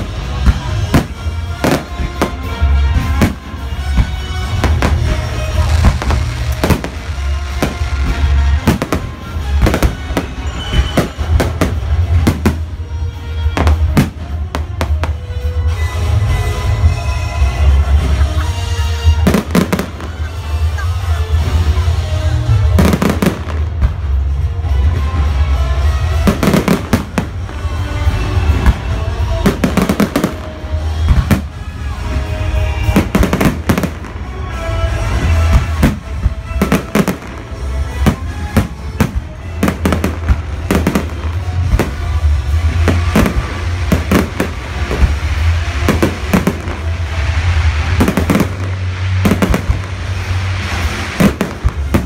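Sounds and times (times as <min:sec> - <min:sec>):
fireworks bangs and crackles: 0:00.0 - 0:52.0
music: 0:00.0 - 0:52.0.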